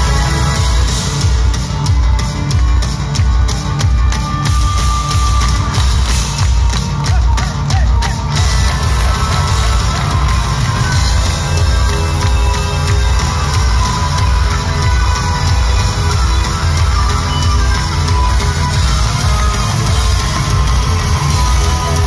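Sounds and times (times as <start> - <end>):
live synth band playing loud: 0.0 - 22.0
pounding synthesizer bass and drums: 0.0 - 22.0.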